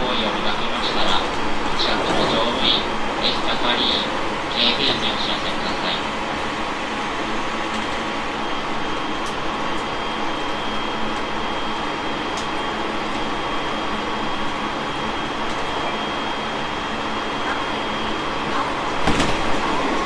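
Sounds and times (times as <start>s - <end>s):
electric train interior noise: 0.0s - 20.0s
faint high whine: 0.0s - 20.0s.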